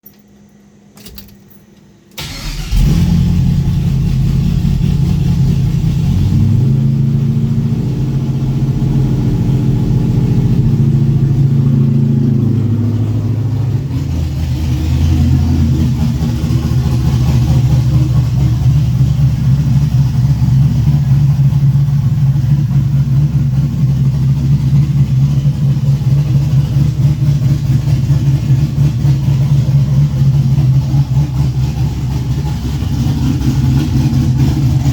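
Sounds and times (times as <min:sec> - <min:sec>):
loud car engine idling: 0:02.2 - 0:34.9.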